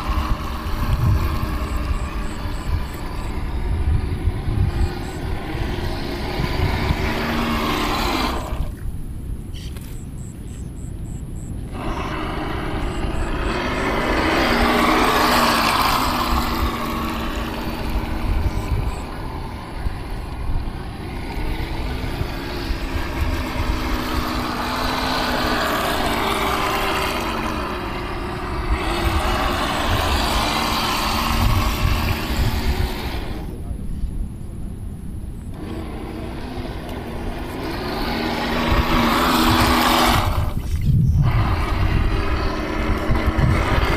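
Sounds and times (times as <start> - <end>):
boat wash on water: 0.0 - 8.9, 11.7 - 33.8, 35.5 - 43.9
small boat motor whining: 0.0 - 43.9.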